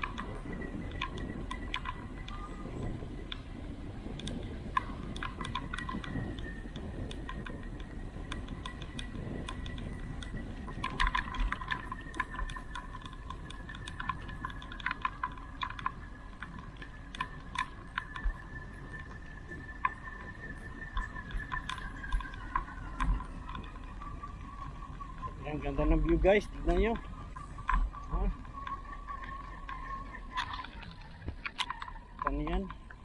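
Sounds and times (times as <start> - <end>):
bicycle clicking and rattling: 0.0 - 33.0
faint high whine: 0.0 - 33.0
low wind rumble: 0.0 - 33.0.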